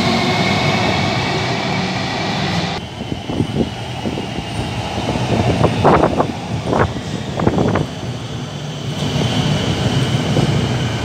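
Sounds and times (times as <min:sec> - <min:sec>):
electric train rumble and whine: 0:00.0 - 0:11.0
train approaching: 0:00.0 - 0:11.0.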